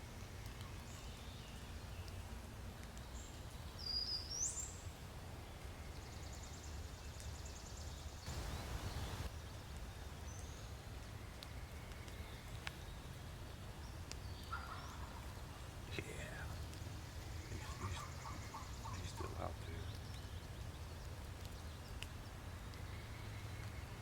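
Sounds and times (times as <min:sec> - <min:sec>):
low steady background rumble: 0:00.0 - 0:24.0
songbirds calling: 0:00.0 - 0:24.0.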